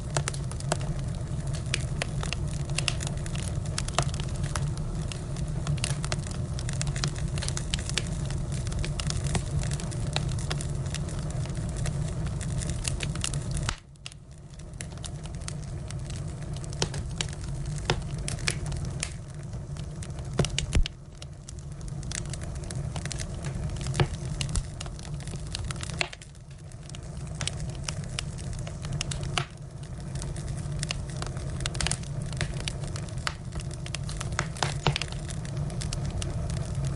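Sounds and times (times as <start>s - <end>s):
firewood crackling and popping: 0.0s - 36.9s
low rush of fire: 0.0s - 36.9s.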